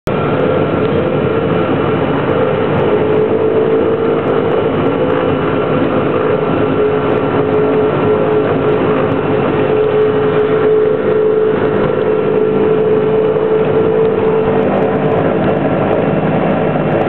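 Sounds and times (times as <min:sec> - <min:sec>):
turboprop engines droning: 0:00.1 - 0:17.0.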